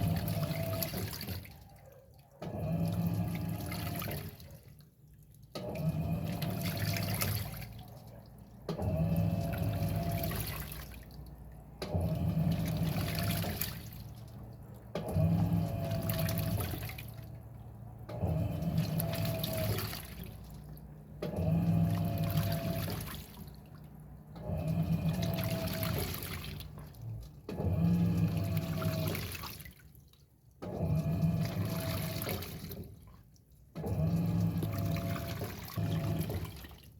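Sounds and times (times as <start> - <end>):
washing machine motor humming: 0.0 - 30.0, 30.6 - 36.9
water swishing and sloshing: 0.0 - 36.9.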